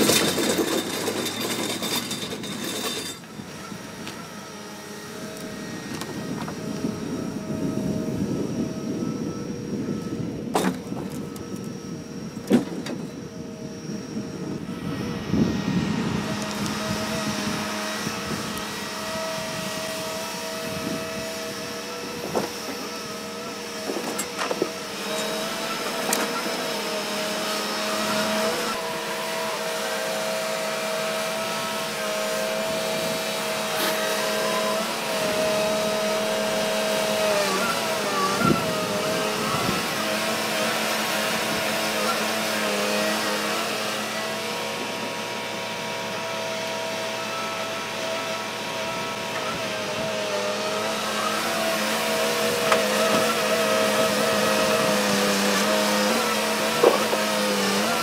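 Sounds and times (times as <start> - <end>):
log loader engine and hydraulics whining: 0.0 - 58.0.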